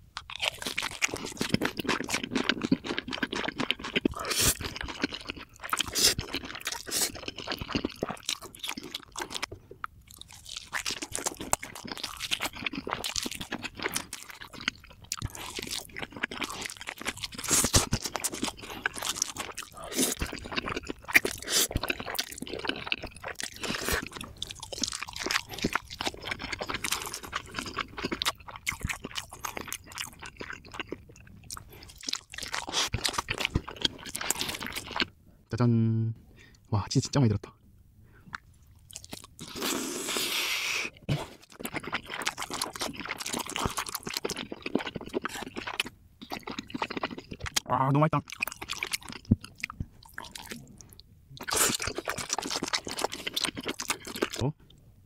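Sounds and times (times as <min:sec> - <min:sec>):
person chewing and crunching food: 0:00.0 - 0:35.1, 0:38.2 - 0:54.9.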